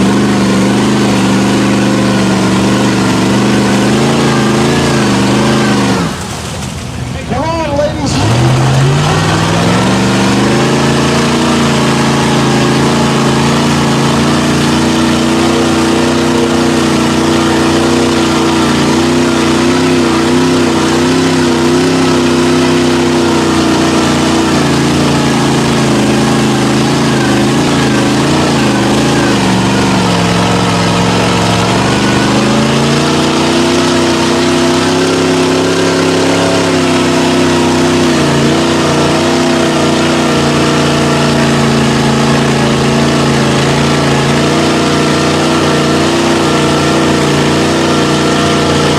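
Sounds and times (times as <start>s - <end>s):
truck engine revving hard: 0.0s - 48.9s.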